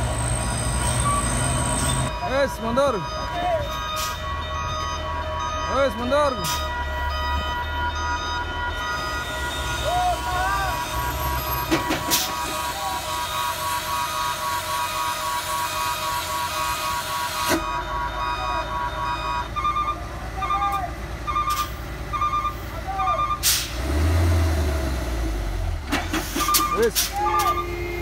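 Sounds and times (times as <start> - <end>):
truck reversing alarm beeping: 0.0 - 24.7, 25.6 - 28.0
diesel engine revving and labouring: 0.0 - 28.0.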